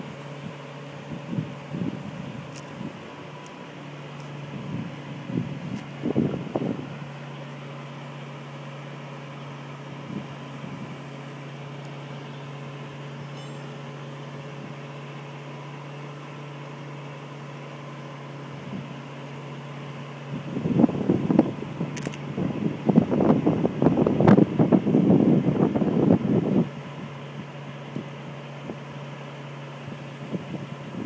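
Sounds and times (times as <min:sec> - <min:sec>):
crane engine humming: 0:00.0 - 0:31.0.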